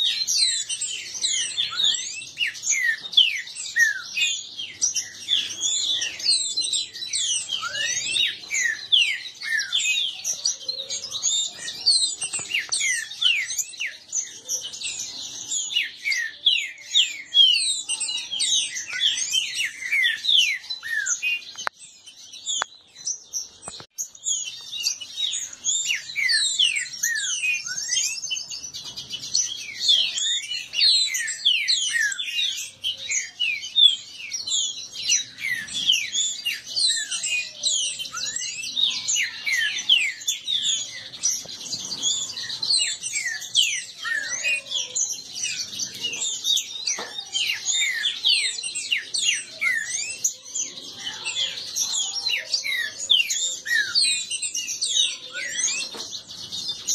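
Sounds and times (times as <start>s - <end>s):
birds singing rapid chirps: 0.0s - 56.9s.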